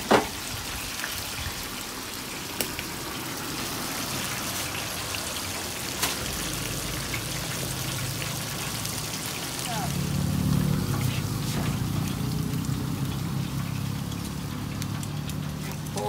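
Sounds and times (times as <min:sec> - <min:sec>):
squid deep-frying in hot oil: 0:00.0 - 0:16.0.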